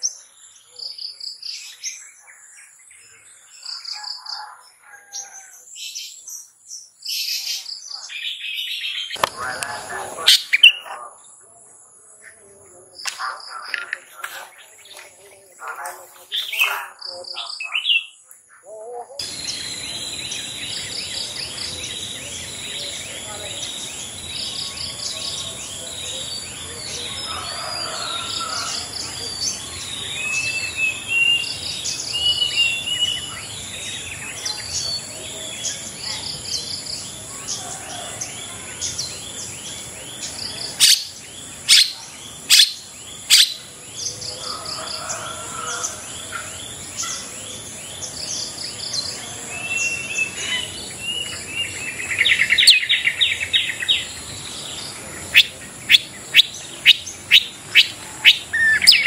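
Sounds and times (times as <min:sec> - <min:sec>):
loud sharp bird calls: 0:00.0 - 0:11.5, 0:12.3 - 0:59.0
bird singing and calling: 0:00.0 - 0:59.0.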